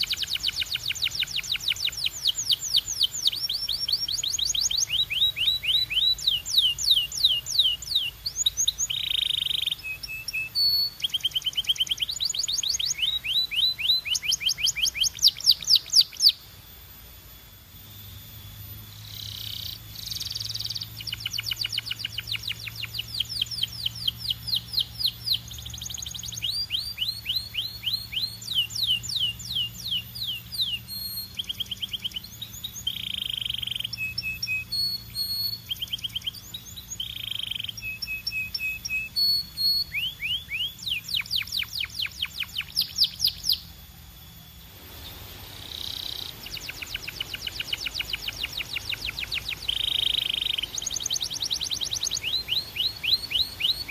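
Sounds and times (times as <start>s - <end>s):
canary singing trills: 0.0s - 16.6s, 17.8s - 53.9s.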